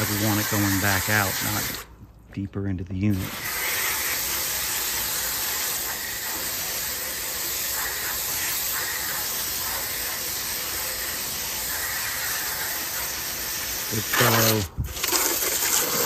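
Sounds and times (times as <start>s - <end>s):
hose spray hissing on metal fins: 0.0s - 1.9s, 3.1s - 16.0s.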